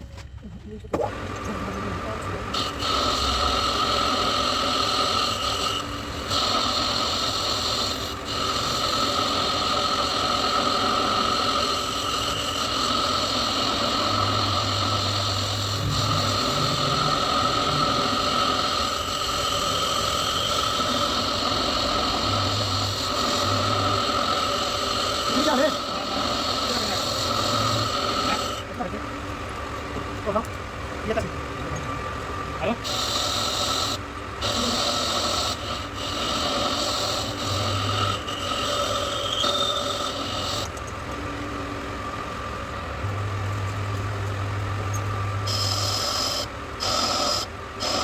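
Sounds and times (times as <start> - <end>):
metal lathe running: 1.0 - 48.0.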